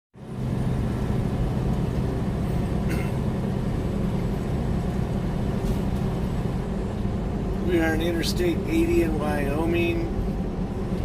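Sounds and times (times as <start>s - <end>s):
road noise: 0.2s - 11.0s
truck engine drone: 0.2s - 11.0s.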